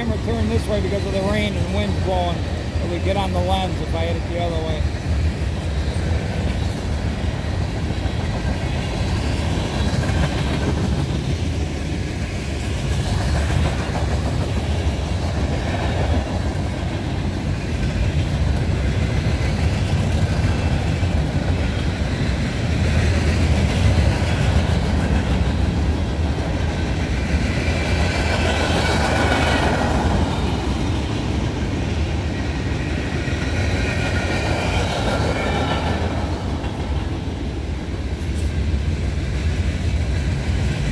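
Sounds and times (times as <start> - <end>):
freight train wheels rumbling: 0.0 - 40.9.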